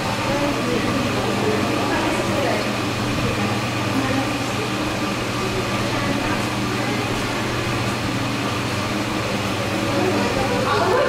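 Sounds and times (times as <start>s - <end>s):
faint voices murmuring: 0.0s - 11.0s
ventilation machine hum: 0.0s - 11.0s.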